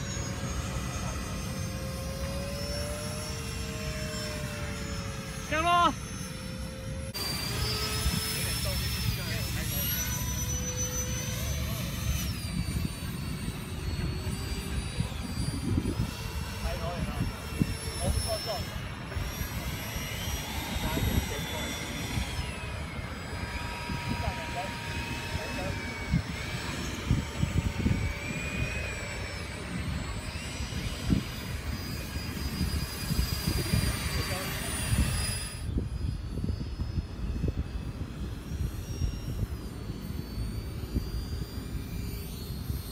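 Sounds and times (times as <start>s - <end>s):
electric fans whining: 0.0s - 42.9s
wind rumble on microphone: 7.0s - 42.9s.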